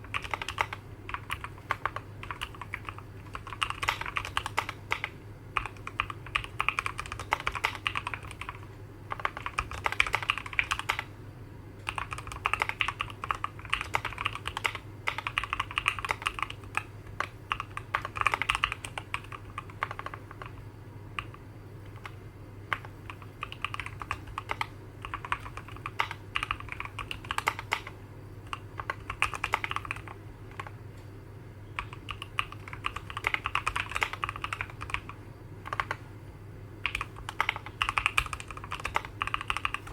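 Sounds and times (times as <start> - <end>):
mechanical keyboard typing: 0.0 - 11.1, 11.8 - 20.6, 21.2 - 30.8, 31.8 - 36.0, 36.8 - 39.9.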